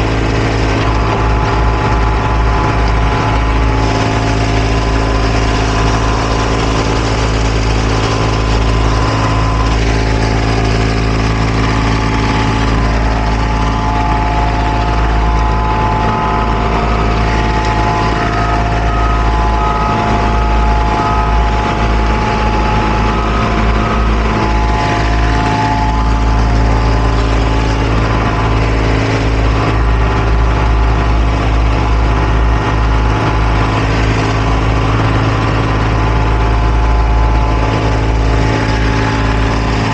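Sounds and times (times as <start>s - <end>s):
heavy machinery engine running: 0.0s - 39.9s
high whine: 0.0s - 39.9s.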